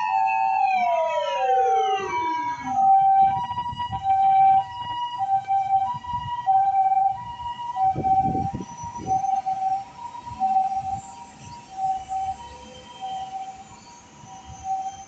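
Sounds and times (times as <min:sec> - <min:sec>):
two-tone ambulance siren: 0:00.0 - 0:15.0.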